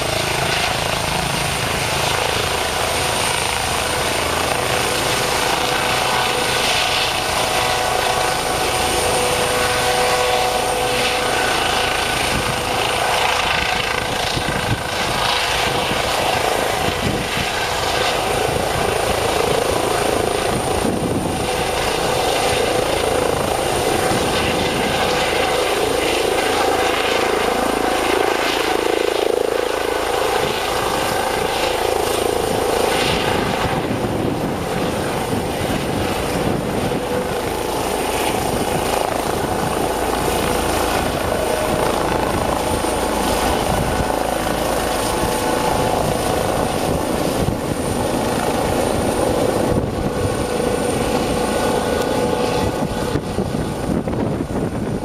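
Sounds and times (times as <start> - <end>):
helicopter rotors: 0.0 - 55.0
high turbine whine: 0.0 - 55.0.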